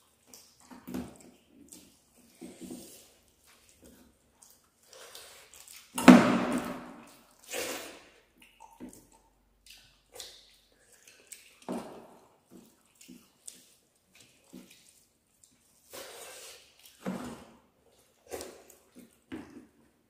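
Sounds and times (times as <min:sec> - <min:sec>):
wet chewing and lip smacks: 0:00.0 - 0:06.0, 0:06.9 - 0:17.0.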